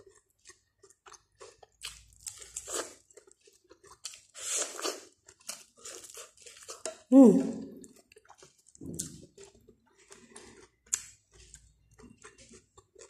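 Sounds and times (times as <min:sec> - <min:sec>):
person chewing corn: 0:00.0 - 0:13.0.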